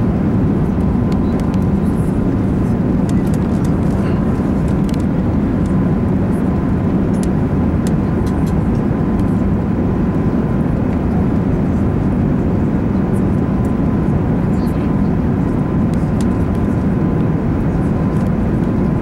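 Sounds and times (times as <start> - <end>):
aircraft cabin engine rumble: 0.0 - 19.0
faint steady whine: 0.0 - 19.0.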